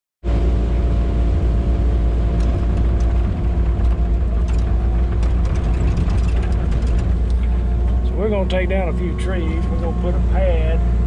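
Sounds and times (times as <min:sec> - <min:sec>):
excavator diesel engine rumble: 0:00.3 - 0:11.0.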